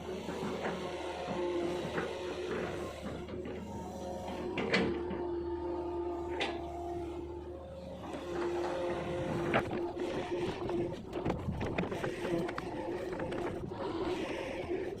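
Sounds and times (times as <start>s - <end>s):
excavator engine drone: 0.0s - 15.0s.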